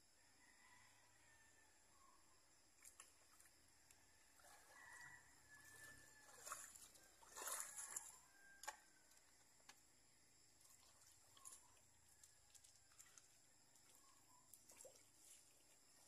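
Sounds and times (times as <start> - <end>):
water splashing and sloshing: 2.6 - 16.0.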